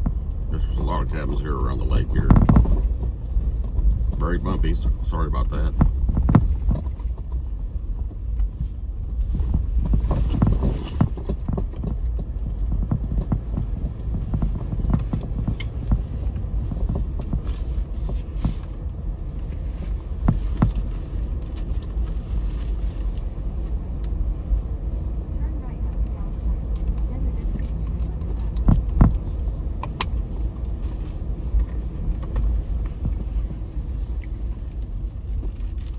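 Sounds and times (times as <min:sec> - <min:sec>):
car knocks and rattles: 0:00.0 - 0:35.9
tyres and engine rumbling: 0:00.0 - 0:35.9.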